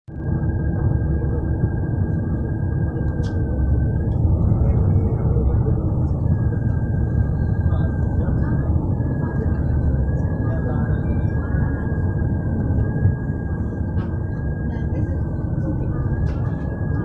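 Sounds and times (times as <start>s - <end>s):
thin whine: 0.1s - 17.0s
truck engine rumbling: 0.1s - 17.0s.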